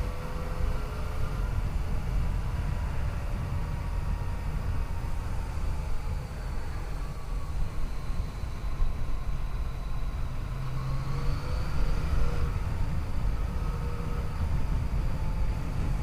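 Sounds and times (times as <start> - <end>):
wind rush on microphone: 0.0 - 16.0.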